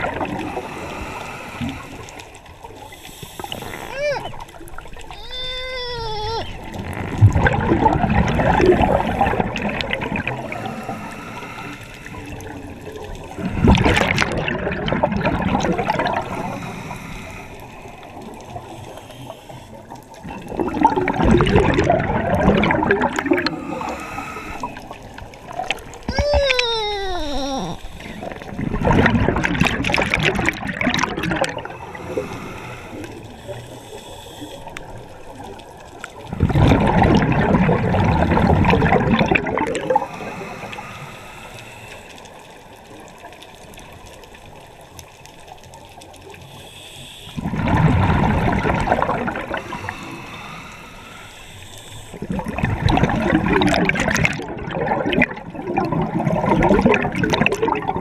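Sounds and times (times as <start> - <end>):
underwater breath bubbling: 0.0 - 44.2, 45.4 - 58.0.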